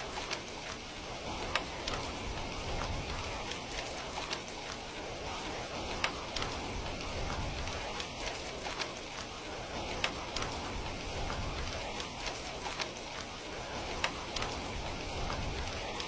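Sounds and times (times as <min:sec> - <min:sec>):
heavy rain hissing: 0:00.0 - 0:16.0
ticks of single raindrops: 0:00.0 - 0:16.0.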